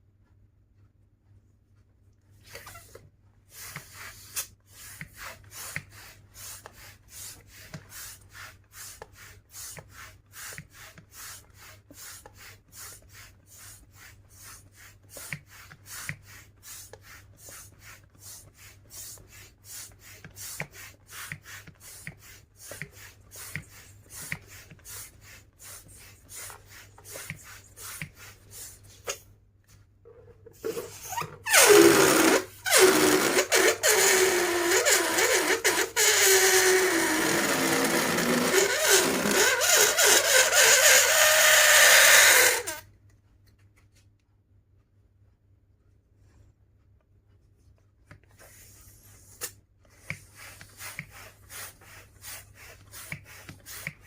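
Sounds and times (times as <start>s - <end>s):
rubbing strokes on balloons: 2.3s - 29.8s, 30.4s - 42.9s, 47.5s - 54.0s.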